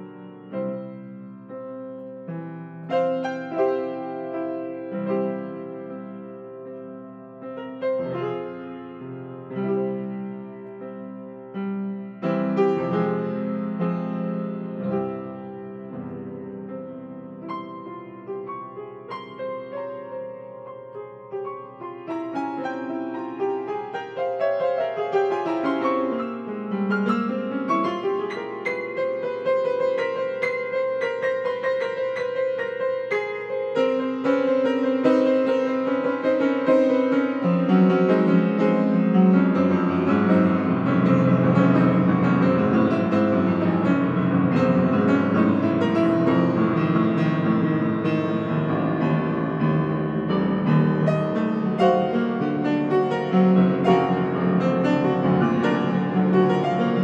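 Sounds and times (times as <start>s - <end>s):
solo piano improvisation: 0.0s - 57.0s.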